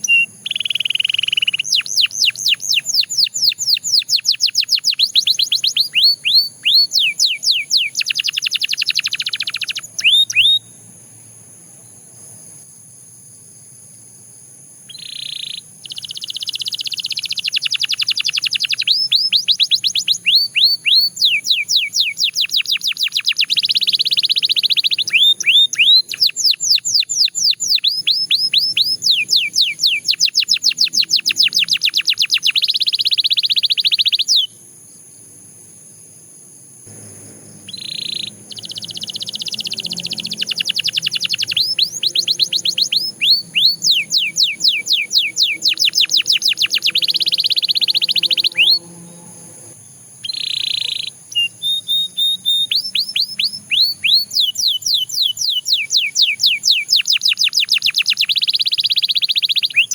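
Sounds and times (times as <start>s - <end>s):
canary singing: 0.0s - 10.9s, 14.8s - 34.6s, 36.9s - 59.9s.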